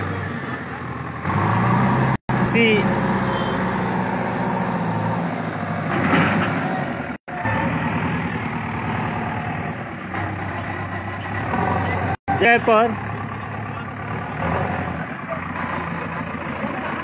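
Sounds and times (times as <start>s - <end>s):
diesel engine running at low revs: 0.0s - 17.0s.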